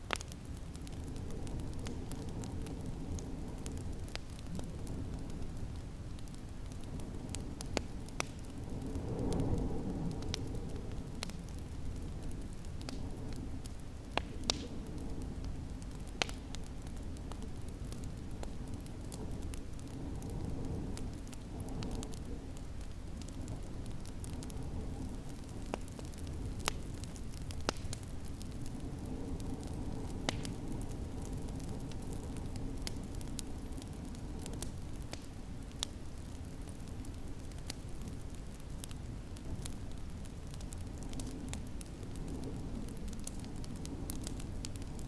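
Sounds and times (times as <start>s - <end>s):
sharp fire pops: 0.0s - 45.0s
wood fire crackling: 0.0s - 45.0s.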